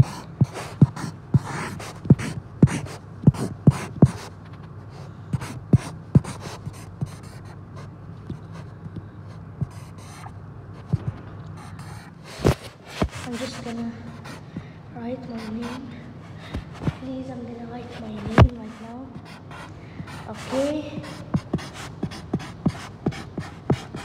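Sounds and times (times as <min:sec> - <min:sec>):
felt-tip marker writing: 0:00.0 - 0:04.7, 0:05.3 - 0:14.6, 0:15.2 - 0:24.0.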